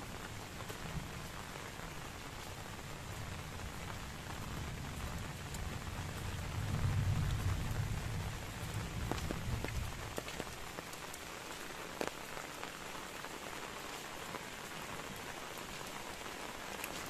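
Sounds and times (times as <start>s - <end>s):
raindrops ticking close: 0.0s - 17.0s
steady rain hiss: 0.0s - 17.0s.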